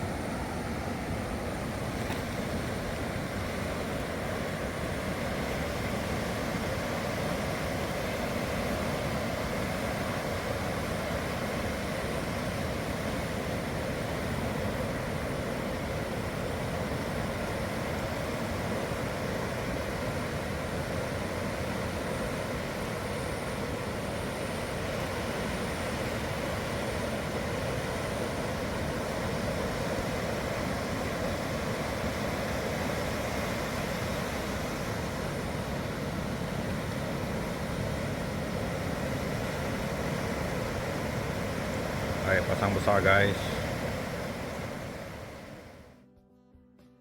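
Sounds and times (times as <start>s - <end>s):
sea surf roaring: 0.0s - 46.0s.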